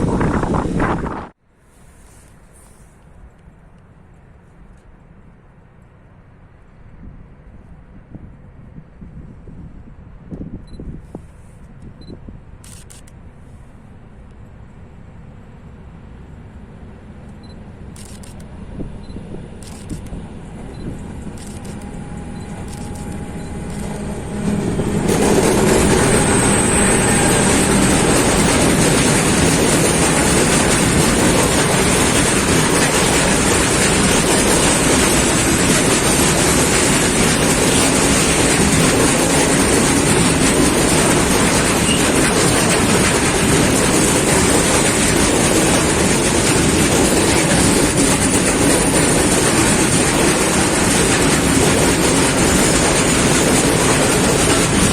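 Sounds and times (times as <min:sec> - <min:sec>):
train rumble: 0:00.0 - 0:54.9
train wheels on rails: 0:10.3 - 0:54.9.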